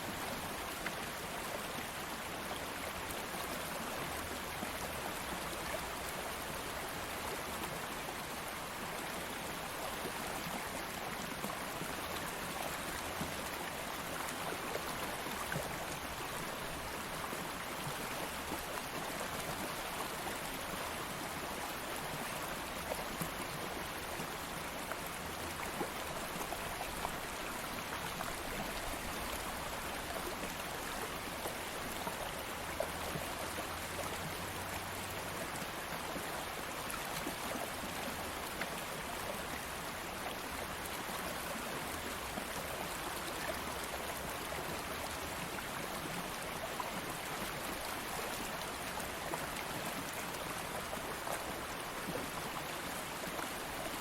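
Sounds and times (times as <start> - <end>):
water flowing over rocks: 0.0 - 54.0.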